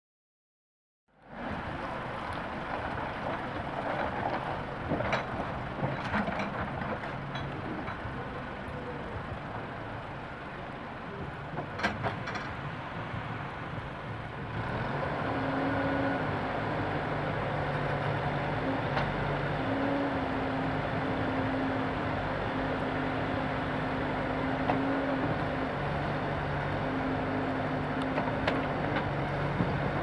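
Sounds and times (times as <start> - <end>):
diesel engine running: 1.1 - 30.0.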